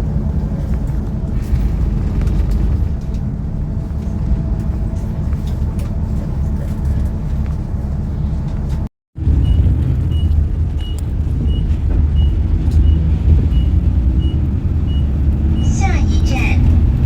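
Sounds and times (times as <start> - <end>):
bus engine and tyres rumbling: 0.0 - 17.0.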